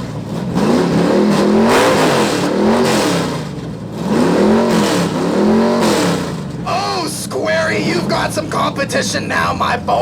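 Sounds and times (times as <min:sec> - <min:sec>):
engine revving through loud exhaust: 0:00.0 - 0:09.1.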